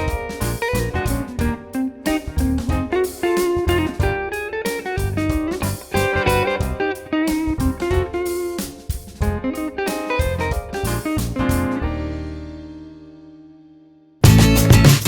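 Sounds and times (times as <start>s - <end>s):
guitar instrumental over a beat: 0.0s - 13.3s, 14.2s - 15.0s.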